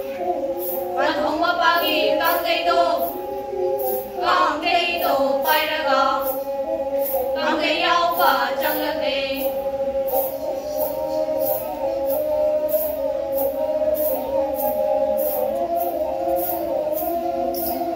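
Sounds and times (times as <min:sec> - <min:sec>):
women singing together: 0:00.0 - 0:17.9.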